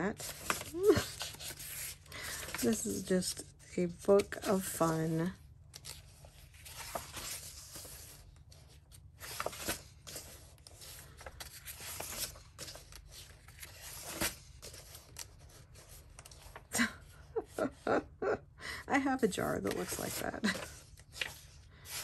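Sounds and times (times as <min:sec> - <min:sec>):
paper pages turning: 0:00.0 - 0:16.7, 0:19.5 - 0:22.0.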